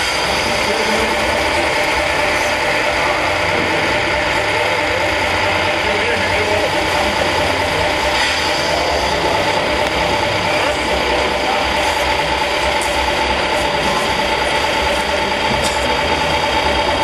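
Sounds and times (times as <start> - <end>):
model truck engine idling: 0.0 - 17.0.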